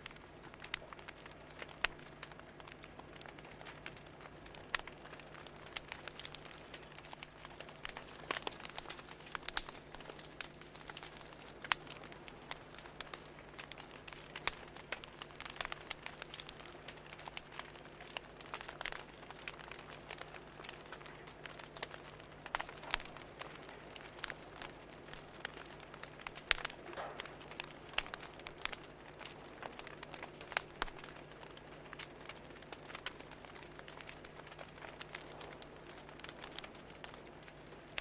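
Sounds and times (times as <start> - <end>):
faint steady hum: 0.0 - 38.0
fire crackling: 0.0 - 38.0.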